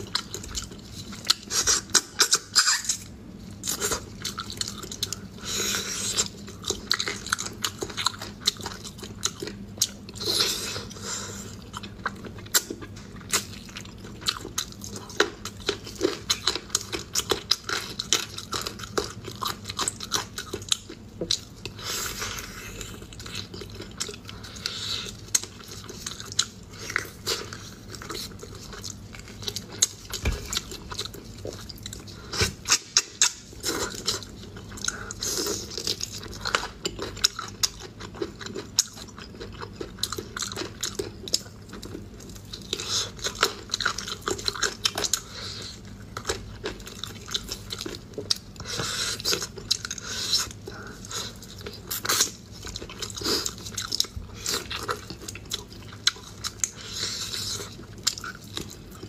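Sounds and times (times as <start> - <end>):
person chewing meat off bones: 0.0 - 59.0.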